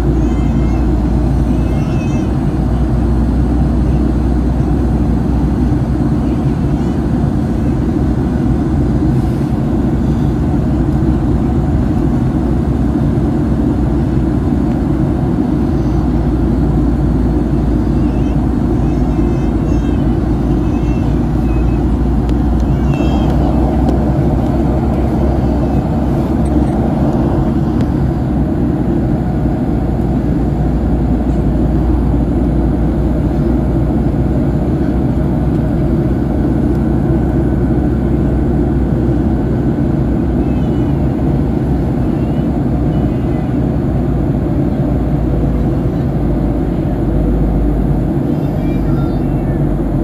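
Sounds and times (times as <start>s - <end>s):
airplane cabin drone: 0.0s - 50.0s.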